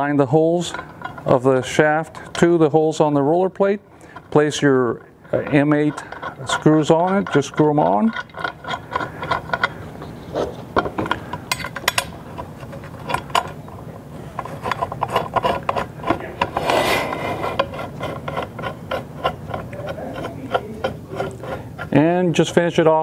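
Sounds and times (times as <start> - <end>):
metal scraping rub: 0.0 - 23.0.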